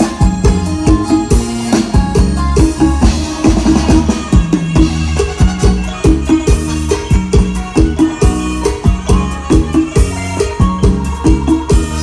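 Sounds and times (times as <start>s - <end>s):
amplified procession band music: 0.0s - 12.0s
bass drum beat: 0.0s - 12.0s
bass line: 0.0s - 12.0s.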